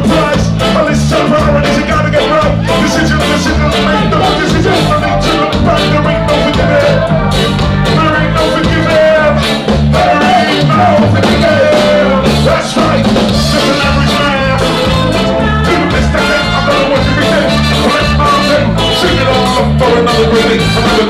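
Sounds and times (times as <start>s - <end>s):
live ska band playing: 0.0s - 21.0s
man singing: 0.0s - 21.0s.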